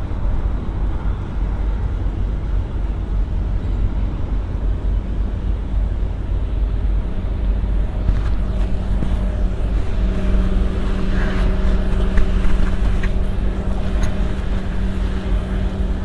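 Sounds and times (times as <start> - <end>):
faint hum: 0.0 - 16.0
traffic rumble: 0.0 - 16.0.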